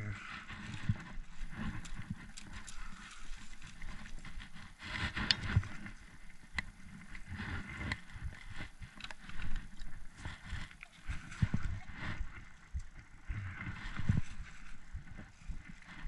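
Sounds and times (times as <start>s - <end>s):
footsteps on dry leaves and twigs: 0.2s - 16.0s.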